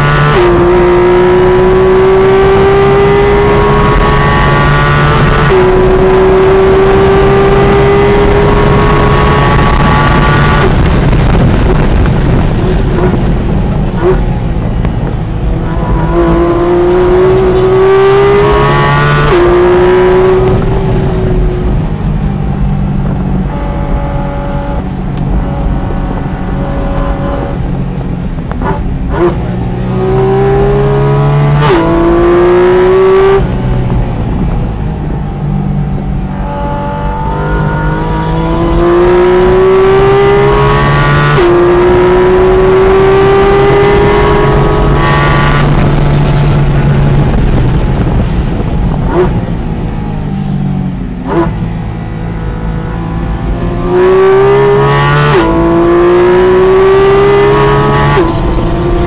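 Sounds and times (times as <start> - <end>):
sports car engine accelerating: 0.0 - 59.0.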